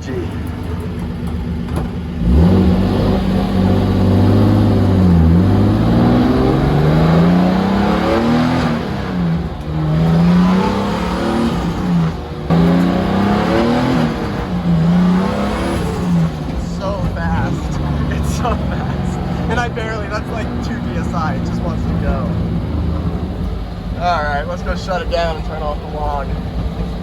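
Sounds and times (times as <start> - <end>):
engine accelerating through gears: 0.0 - 27.0.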